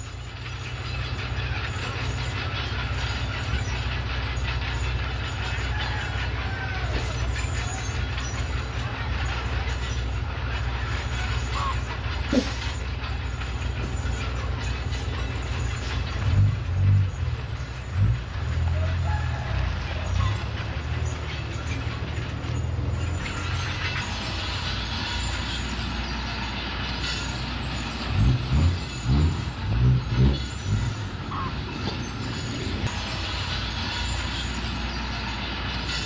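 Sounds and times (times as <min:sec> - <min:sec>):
bulldozer diesel engine droning: 0:00.0 - 0:36.0.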